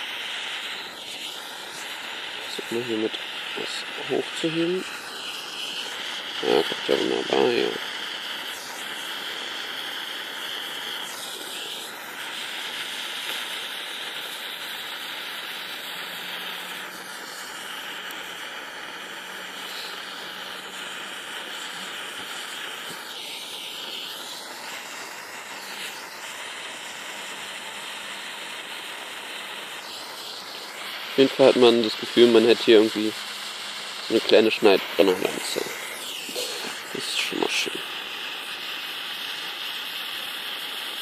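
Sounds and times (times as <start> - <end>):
fireworks lighter stick hissing: 0.0 - 41.0.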